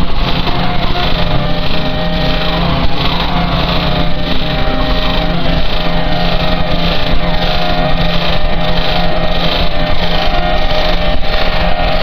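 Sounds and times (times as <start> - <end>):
harsh distorted noise music: 0.0 - 12.0.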